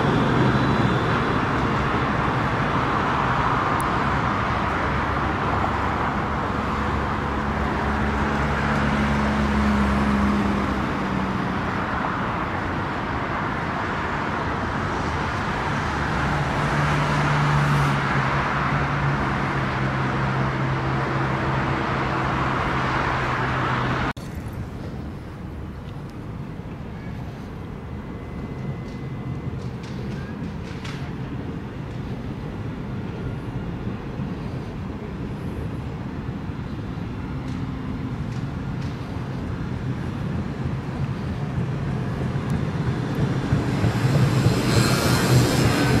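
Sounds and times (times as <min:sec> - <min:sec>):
street background: 0:00.0 - 0:46.0
tram rolling past: 0:00.0 - 0:46.0.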